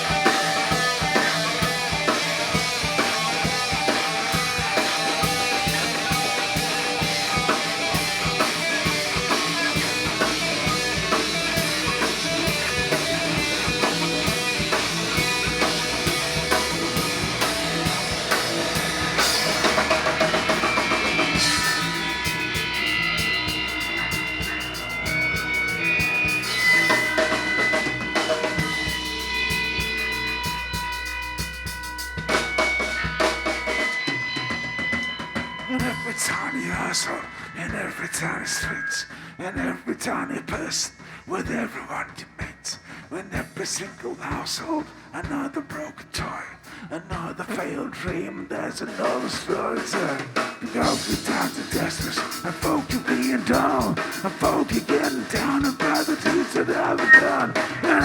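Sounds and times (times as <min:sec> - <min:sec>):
instrumental rock music: 0:00.0 - 0:37.8, 0:49.1 - 0:58.0.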